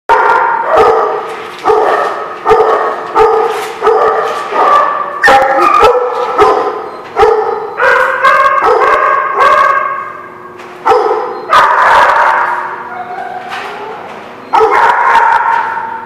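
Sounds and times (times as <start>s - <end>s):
dogs barking with echo: 0.1s - 16.0s.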